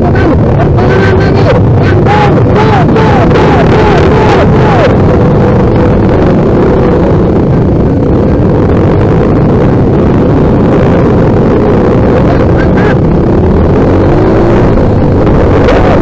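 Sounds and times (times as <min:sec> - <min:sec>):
dirt bike engines running: 0:00.0 - 0:16.0
wind rumble on microphone: 0:00.0 - 0:16.0.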